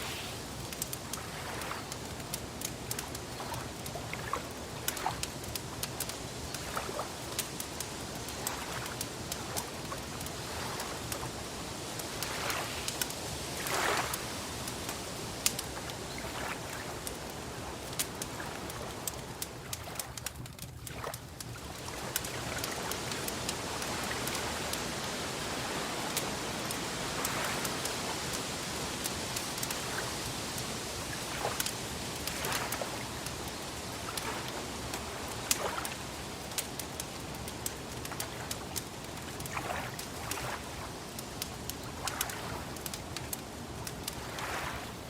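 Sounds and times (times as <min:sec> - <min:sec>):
steady hiss: 0:00.0 - 0:45.0
wood fire crackling and popping: 0:00.0 - 0:45.0.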